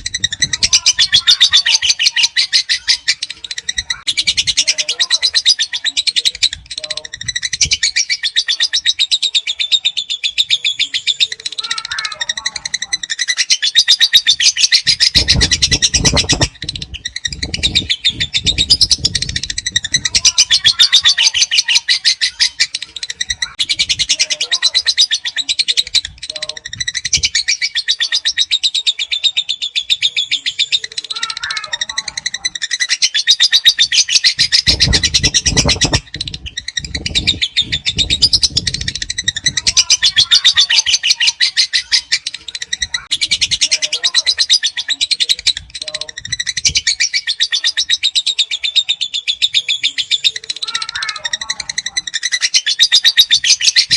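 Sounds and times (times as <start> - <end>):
bird chattering trills: 0.0 - 53.9.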